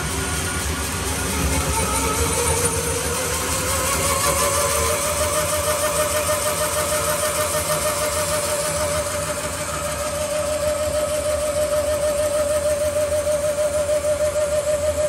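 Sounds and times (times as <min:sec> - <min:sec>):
band saw humming and whining: 0:00.0 - 0:15.0.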